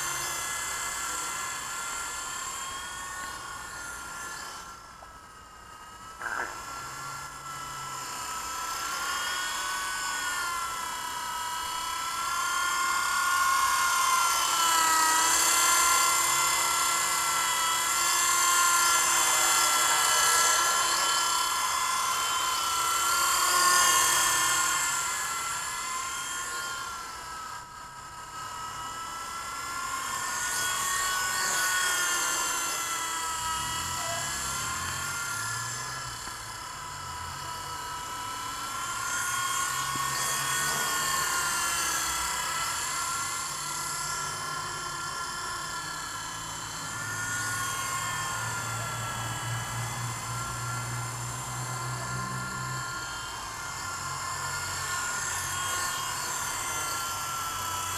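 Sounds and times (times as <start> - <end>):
toy helicopter motor whine: 0.0 - 57.9.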